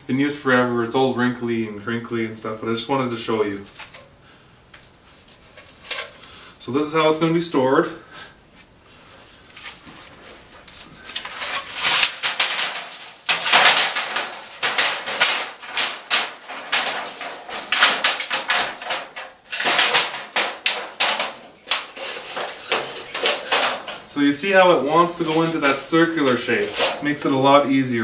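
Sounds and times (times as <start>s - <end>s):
foil crinkling and crackling: 0.5s - 4.1s, 4.7s - 7.8s, 9.1s - 27.4s.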